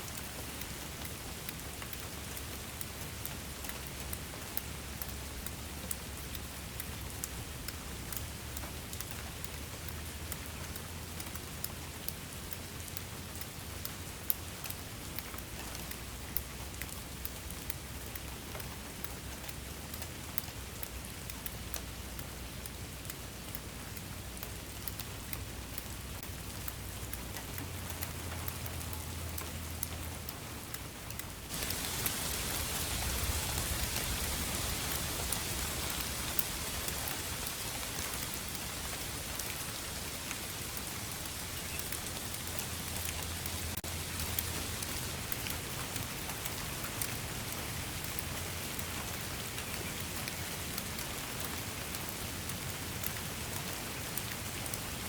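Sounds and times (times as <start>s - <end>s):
steady rain with drops ticking: 0.0s - 55.0s.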